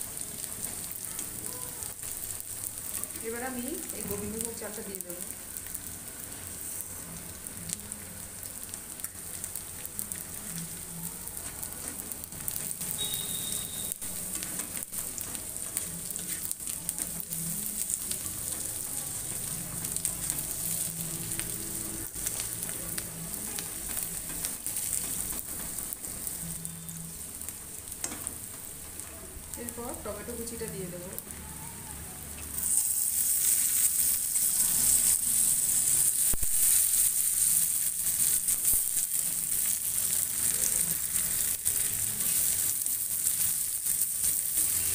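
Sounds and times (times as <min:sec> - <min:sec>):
food sizzling in a wok: 0:00.0 - 0:44.9.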